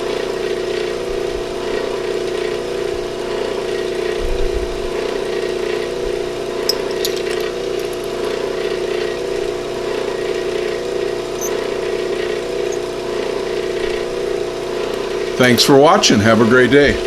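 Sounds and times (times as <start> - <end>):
electric motor humming: 0.0 - 15.6.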